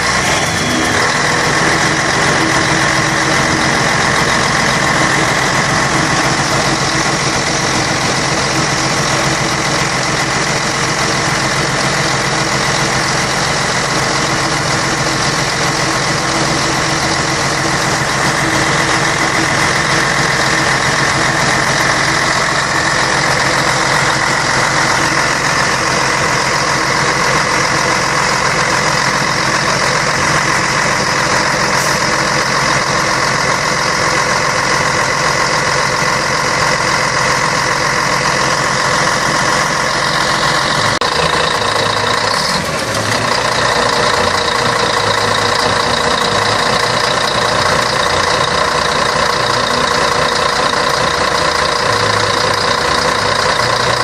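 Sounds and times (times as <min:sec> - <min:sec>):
diesel bus engine droning: 0:00.0 - 0:54.0
high engine whine: 0:00.0 - 0:54.0.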